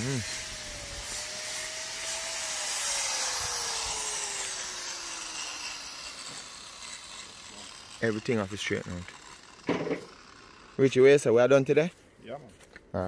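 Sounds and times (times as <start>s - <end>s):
power tool motor spinning down: 0.0s - 11.3s.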